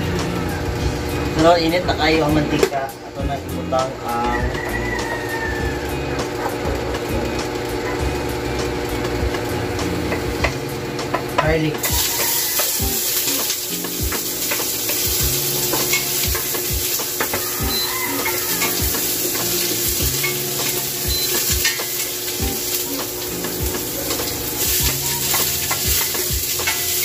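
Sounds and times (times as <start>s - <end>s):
garlic sizzling in hot oil: 4.4s - 27.0s.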